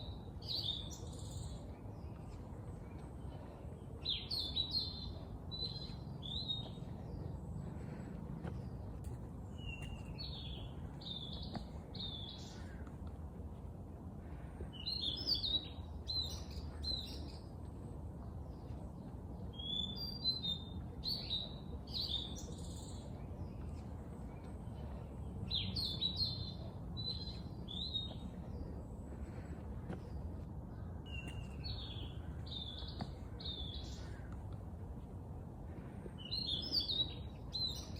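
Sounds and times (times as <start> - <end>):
songbird chirping: 0.0 - 37.9.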